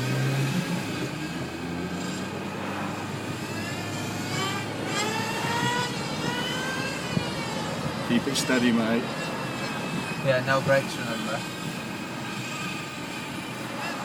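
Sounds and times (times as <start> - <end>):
low vehicle drone: 0.0 - 14.0
remote-control car motor whining: 0.4 - 14.0.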